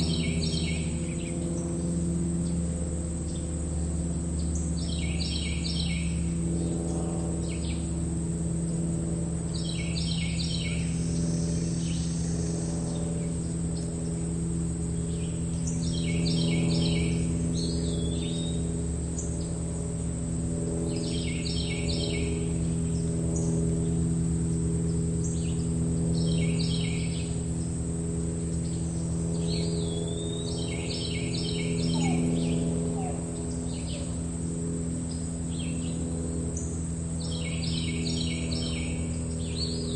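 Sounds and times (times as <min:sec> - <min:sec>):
crickets chirring: 0:00.0 - 0:39.9
low hum: 0:00.0 - 0:39.9
songbird singing: 0:00.0 - 0:39.9.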